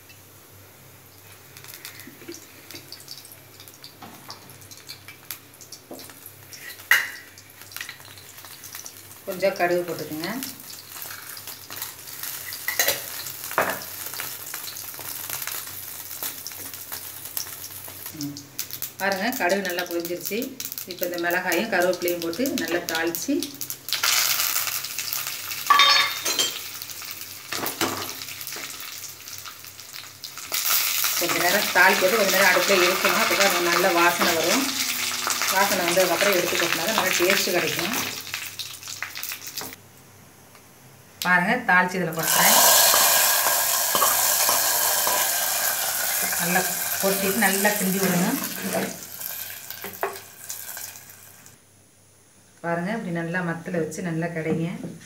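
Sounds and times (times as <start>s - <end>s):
oil crackling and popping: 1.2s - 9.4s, 10.0s - 25.8s, 26.4s - 39.8s, 42.2s - 51.6s.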